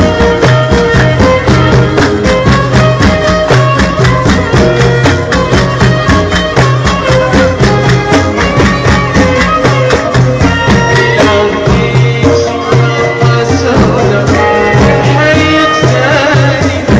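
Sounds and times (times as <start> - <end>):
fast percussive beat: 0.0 - 16.9
folk music group: 0.0 - 16.9.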